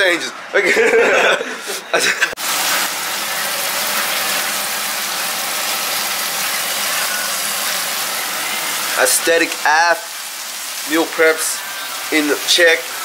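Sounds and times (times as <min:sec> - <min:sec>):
pot hissing on stove: 0:02.4 - 0:13.0.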